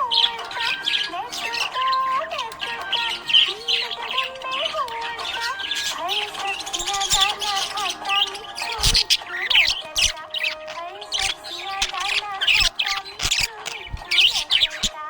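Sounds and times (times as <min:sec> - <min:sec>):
background music: 0:00.0 - 0:15.0
budgerigars chirping: 0:00.0 - 0:15.0.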